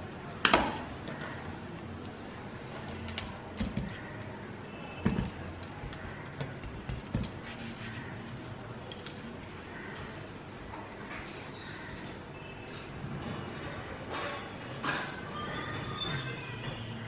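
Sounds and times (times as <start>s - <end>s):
room noise: 0.0s - 17.0s.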